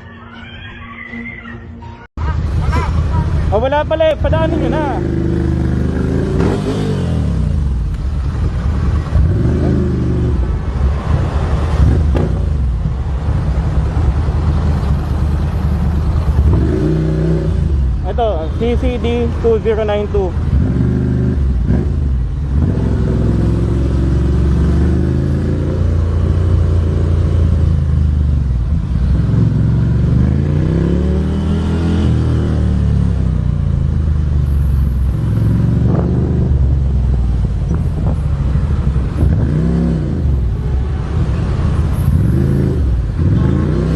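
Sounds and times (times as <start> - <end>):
vehicle engines in traffic: 0.0 - 43.9.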